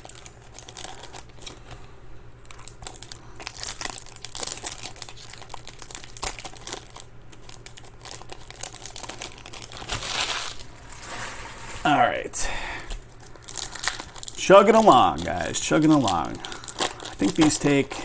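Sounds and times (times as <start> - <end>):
foil wrappers crinkling and tearing: 0.0 - 1.8, 2.4 - 12.0, 12.8 - 18.0.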